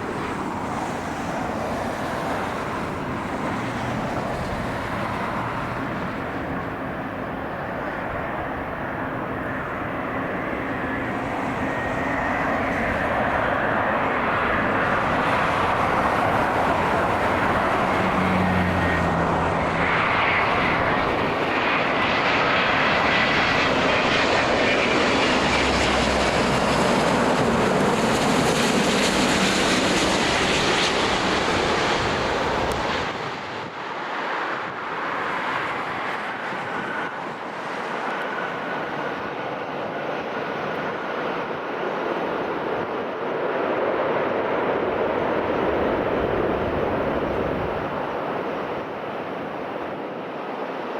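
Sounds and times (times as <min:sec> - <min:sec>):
jet airliner passing low: 0:00.0 - 0:50.9.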